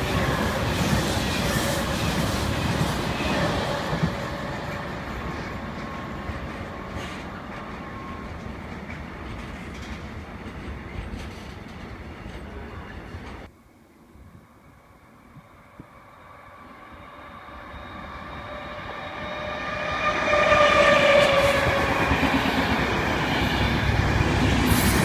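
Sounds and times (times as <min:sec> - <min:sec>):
freight train wheels on rails: 0:00.0 - 0:13.5, 0:15.8 - 0:25.0.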